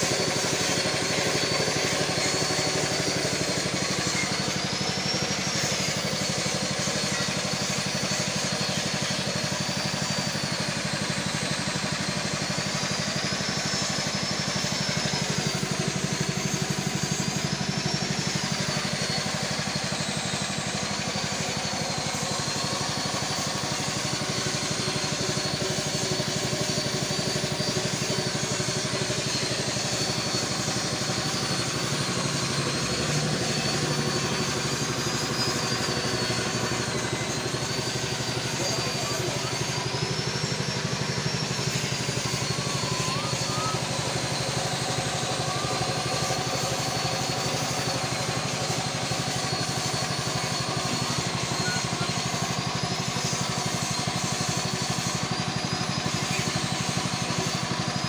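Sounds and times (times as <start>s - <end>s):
diesel engine idling: 0.0s - 58.0s
high wavering whine: 0.0s - 58.0s.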